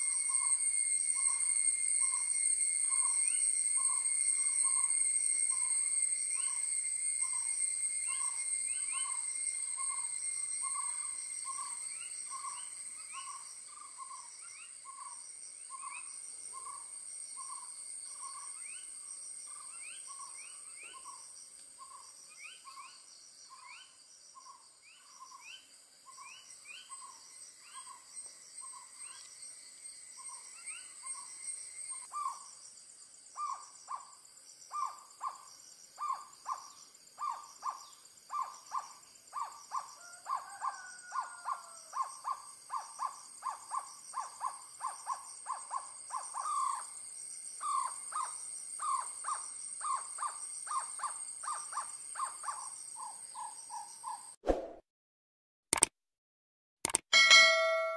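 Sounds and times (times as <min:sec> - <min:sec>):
insects buzzing: 0:00.0 - 0:54.4.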